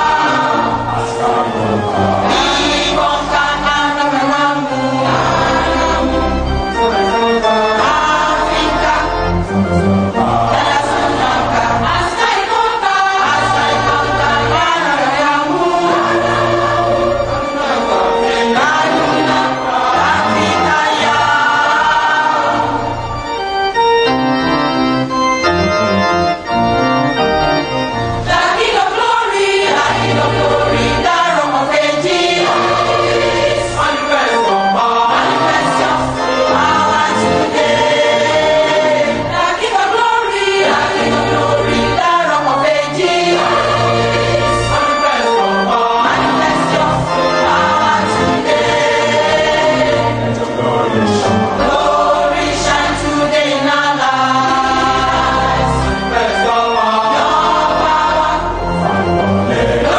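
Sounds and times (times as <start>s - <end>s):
choir singing: 0.0s - 24.6s, 26.6s - 59.9s
organ accompaniment: 0.0s - 59.9s.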